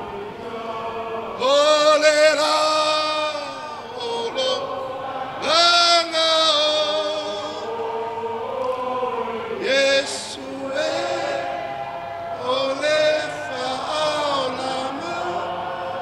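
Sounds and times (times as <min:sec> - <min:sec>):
voices singing a chant: 0:00.0 - 0:16.0.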